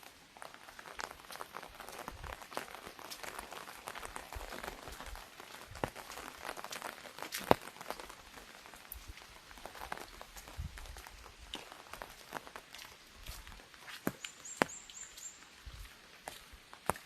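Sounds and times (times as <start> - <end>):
drops tapping on umbrella: 0.0 - 15.3
rain hissing: 0.0 - 17.0.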